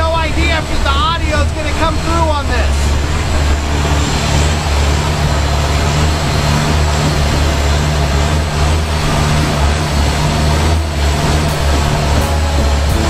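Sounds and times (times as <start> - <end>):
boat engine droning: 0.0 - 13.0
rushing noise: 0.0 - 13.0.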